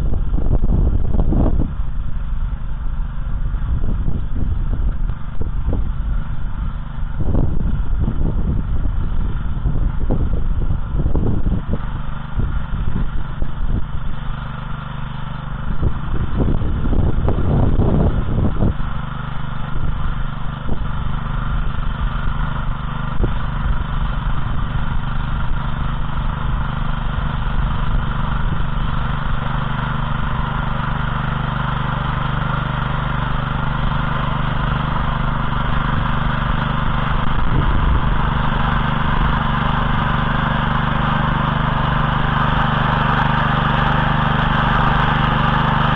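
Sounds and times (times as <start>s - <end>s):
tiller engine running: 0.0s - 45.9s.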